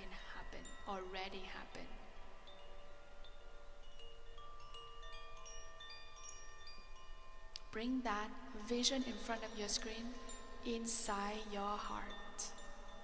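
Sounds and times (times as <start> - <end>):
chimes ringing softly: 0.0 - 13.0.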